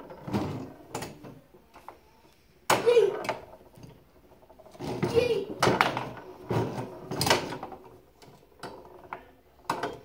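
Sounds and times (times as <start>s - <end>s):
foosball rods clicking and knocking: 0.0s - 10.0s.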